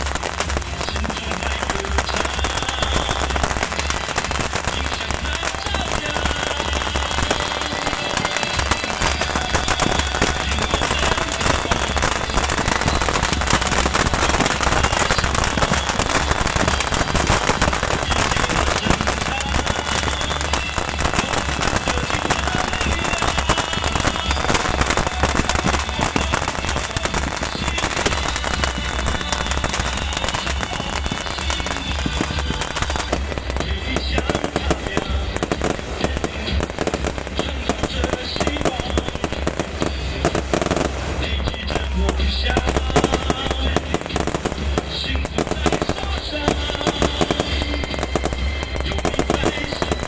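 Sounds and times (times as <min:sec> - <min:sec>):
fireworks crackling bangs: 0:00.0 - 0:50.0.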